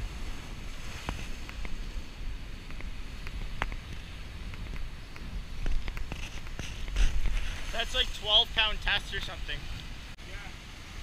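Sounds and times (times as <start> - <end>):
wind buffeting microphone: 0.0 - 10.2
breaking surf: 0.0 - 11.0.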